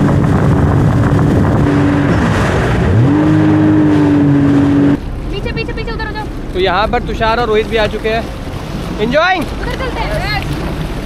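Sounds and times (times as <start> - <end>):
jet ski engine running: 0.0 - 11.0
wind and water spray rushing: 0.0 - 11.0.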